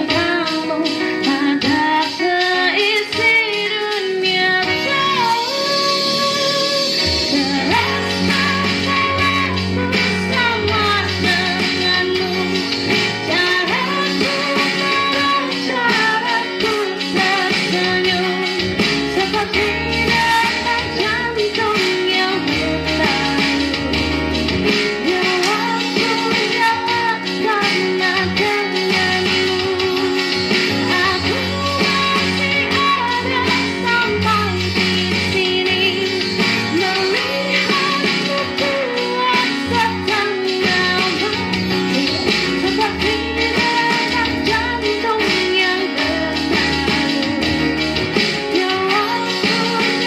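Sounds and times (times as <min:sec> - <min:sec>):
guitar accompaniment: 0:00.0 - 0:50.0
person singing: 0:00.0 - 0:50.0
steady beat: 0:00.0 - 0:50.0
bass notes: 0:04.1 - 0:50.0.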